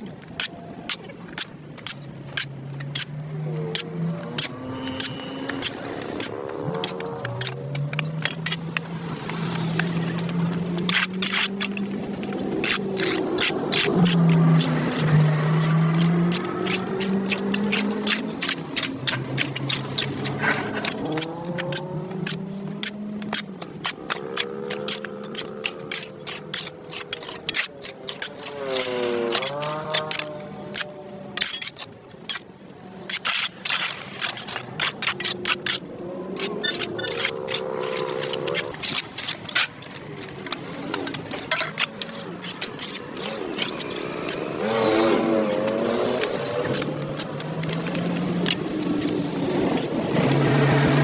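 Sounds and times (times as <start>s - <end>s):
scraping on hard surface: 0.4s - 32.4s, 33.0s - 51.0s
vehicle engine: 2.4s - 31.4s, 33.9s - 51.0s.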